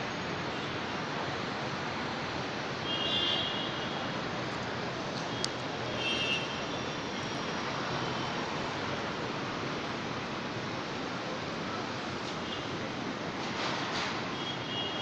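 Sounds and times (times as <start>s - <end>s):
traffic and airport roar: 0.0s - 15.0s.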